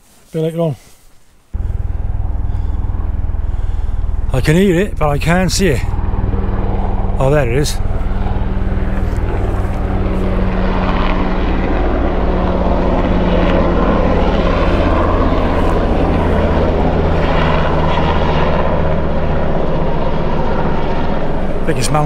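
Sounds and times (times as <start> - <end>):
helicopter flying over: 1.6 - 22.0.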